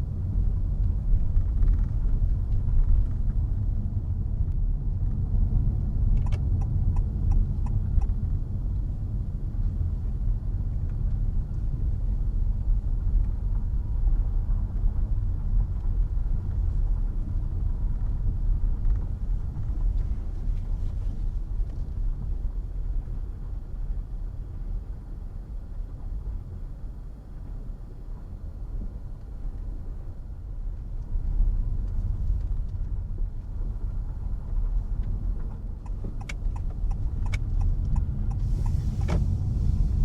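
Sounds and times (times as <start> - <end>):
car cabin road noise: 0.0 - 26.8, 27.4 - 40.0.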